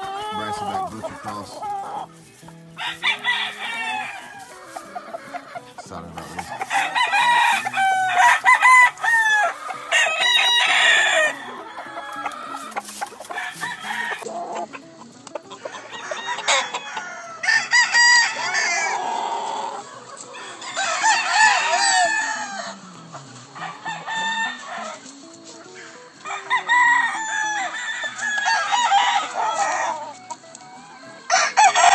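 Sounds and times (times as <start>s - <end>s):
roosters crowing: 0.0s - 31.9s.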